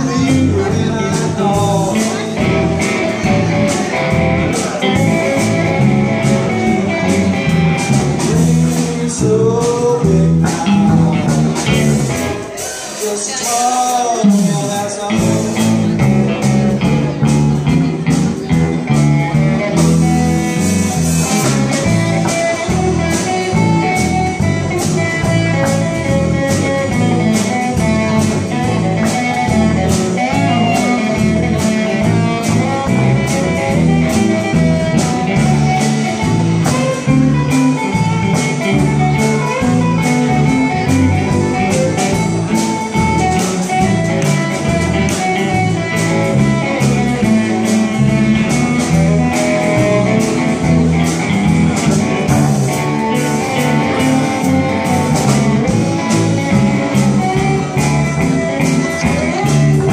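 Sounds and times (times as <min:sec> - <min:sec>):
bass guitar: 0:00.0 - 0:59.9
drum kit beat: 0:00.0 - 0:59.9
electric guitars: 0:00.0 - 0:59.9.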